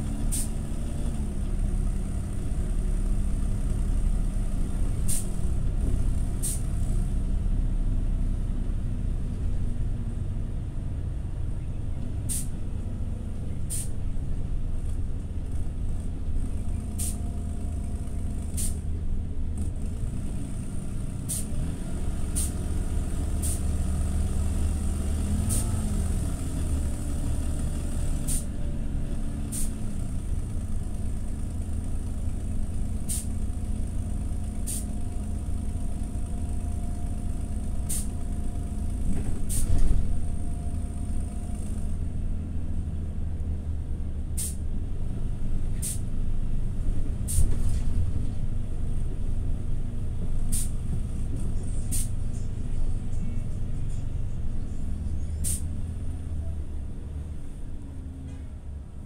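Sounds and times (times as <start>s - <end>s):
bus engine running: 0.0s - 59.0s.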